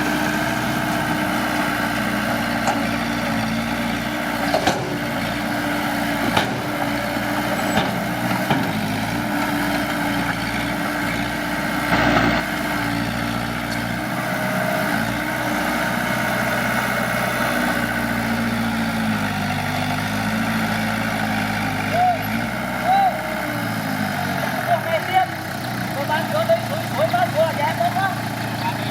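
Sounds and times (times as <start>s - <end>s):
heavy diesel engine running: 0.0s - 28.9s.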